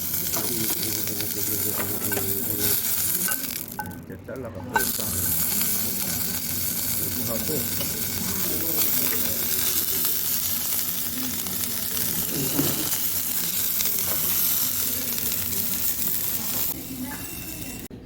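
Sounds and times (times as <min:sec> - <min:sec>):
beef sizzling on grill: 0:00.0 - 0:04.0, 0:04.7 - 0:17.9.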